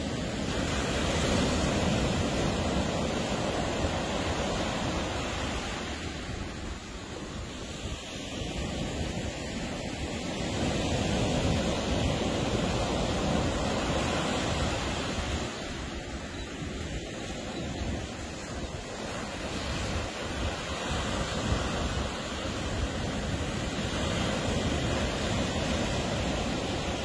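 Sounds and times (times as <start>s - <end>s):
waves breaking on beach: 0.0s - 27.0s.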